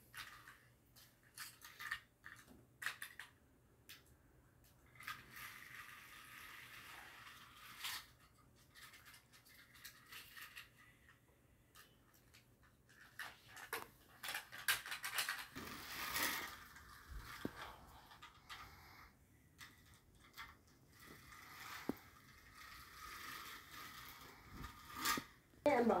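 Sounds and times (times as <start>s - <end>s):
toy cars on plastic track: 0.0s - 26.0s.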